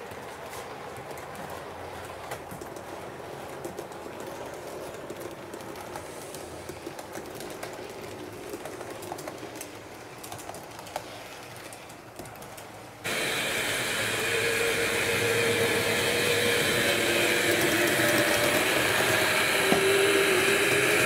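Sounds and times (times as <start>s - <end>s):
wheels clicking on rails: 0.0s - 21.0s
model train rolling whir: 2.2s - 21.0s.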